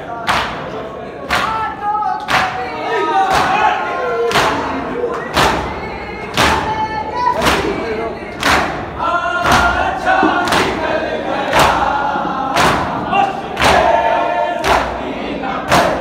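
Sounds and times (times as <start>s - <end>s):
men chanting a lament: 0.0s - 16.0s
men slapping chests in unison: 0.2s - 6.8s, 7.4s - 16.0s.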